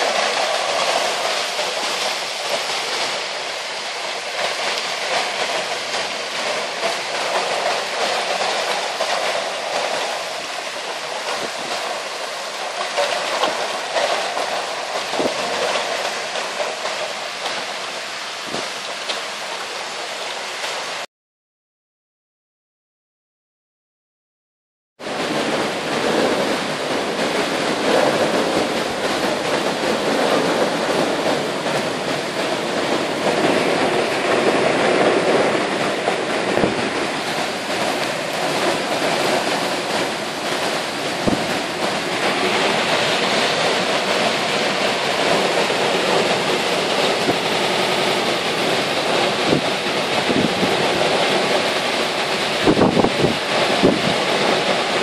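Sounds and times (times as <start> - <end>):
heavy rain downpour: 0.0 - 21.1, 25.0 - 55.0
wind through tree foliage: 0.0 - 21.1, 25.0 - 55.0.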